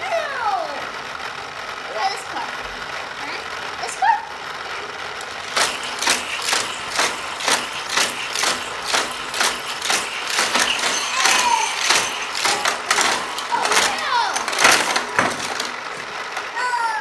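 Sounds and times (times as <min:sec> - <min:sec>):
toy car track clacking: 0:00.0 - 0:17.0.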